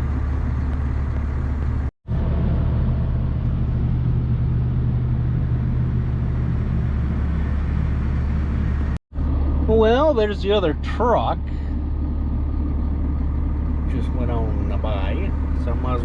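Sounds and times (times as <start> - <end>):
tractor diesel engine humming: 0.0 - 16.0.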